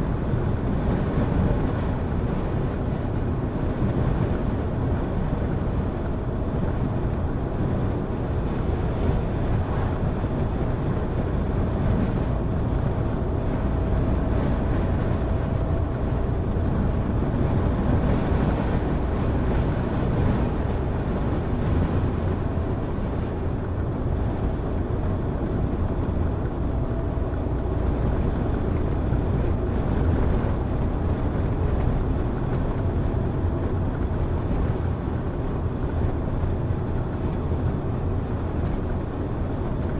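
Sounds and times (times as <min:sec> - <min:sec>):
car driving noise: 0:00.0 - 0:39.9.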